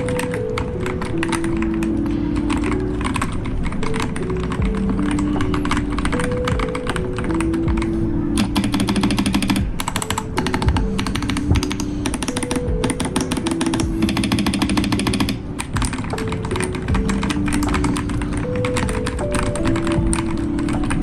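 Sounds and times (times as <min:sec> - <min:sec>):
mechanical keyboard typing: 0:00.0 - 0:21.0
soft background music: 0:00.0 - 0:21.0.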